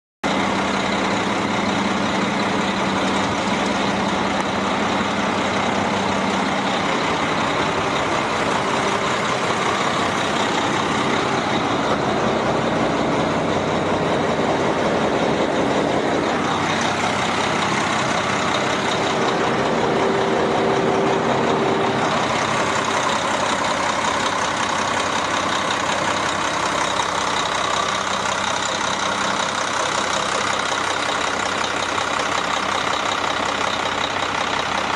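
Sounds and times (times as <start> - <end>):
diesel truck engine running: 0.2 - 34.9.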